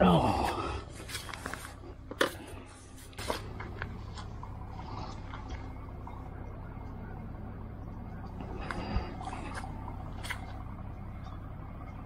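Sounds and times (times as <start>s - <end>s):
wind and road rumble: 0.3s - 12.0s.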